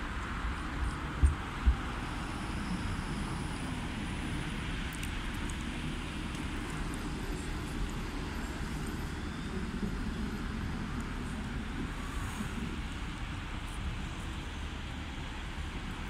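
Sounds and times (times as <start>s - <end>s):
street traffic: 0.0s - 16.0s
tram low rumble: 0.0s - 16.0s.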